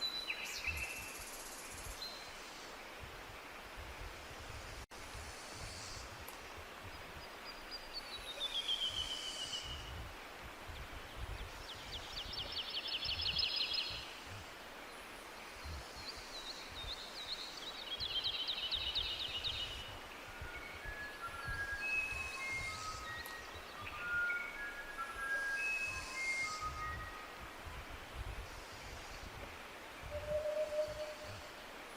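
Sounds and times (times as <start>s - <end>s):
songbirds singing: 0.0s - 4.1s, 5.6s - 31.9s
steady hiss and low rumble: 0.0s - 31.9s.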